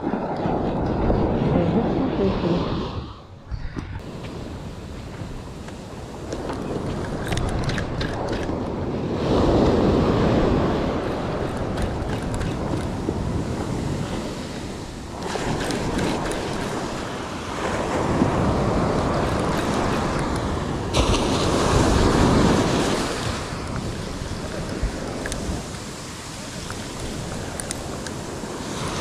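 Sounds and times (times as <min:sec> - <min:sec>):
ocean surf breaking: 0:00.0 - 0:29.0
wind on microphone: 0:00.0 - 0:29.0.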